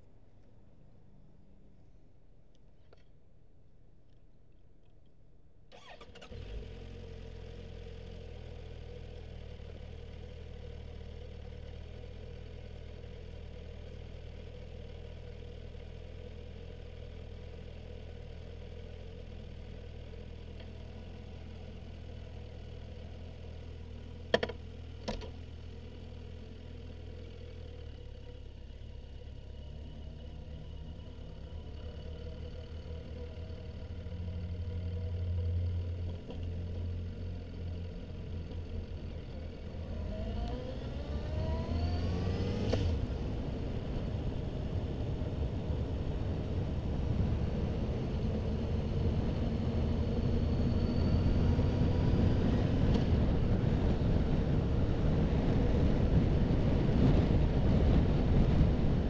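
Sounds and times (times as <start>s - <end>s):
motorcycle engine idling and revving: 5.7s - 59.0s.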